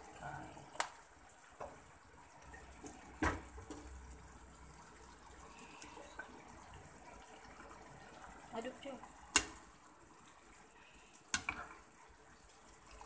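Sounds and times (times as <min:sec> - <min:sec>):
sauce simmering in a frying pan: 0:00.0 - 0:13.0.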